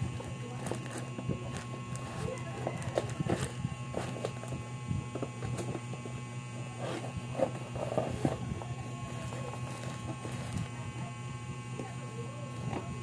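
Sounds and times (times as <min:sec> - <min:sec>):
cardboard box rustling and scraping: 0:00.0 - 0:11.2
steady low hum: 0:00.0 - 0:13.0.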